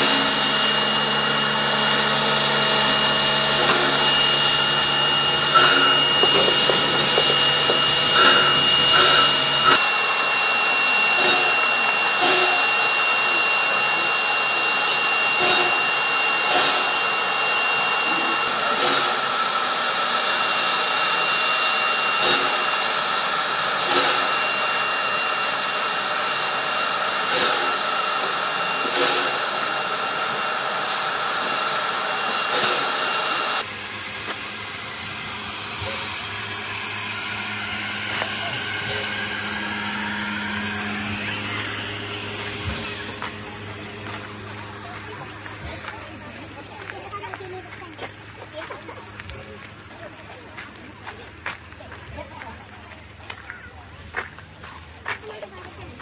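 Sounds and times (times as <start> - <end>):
steam hissing from locomotive: 0.0 - 56.0
thin high steady tone: 0.0 - 56.0.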